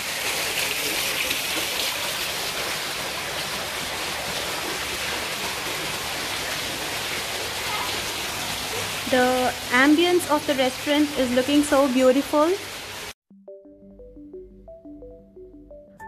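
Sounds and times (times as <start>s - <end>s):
fountain water splashing into pool: 0.0s - 13.2s.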